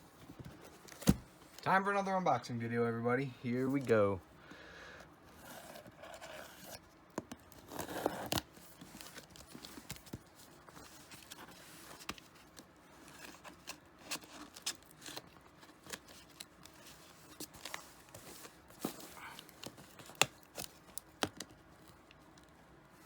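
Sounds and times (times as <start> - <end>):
packaging rustling and scraping: 0.0 - 1.7, 5.3 - 23.0.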